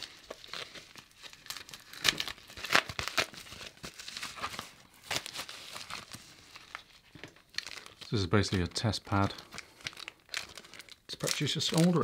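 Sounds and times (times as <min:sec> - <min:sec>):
packaging bag crinkling and tearing: 0:00.0 - 0:12.0.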